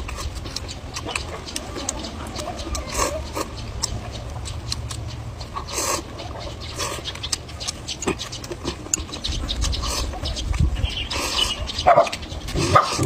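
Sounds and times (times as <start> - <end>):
chewing with full mouth: 0.0 - 13.0.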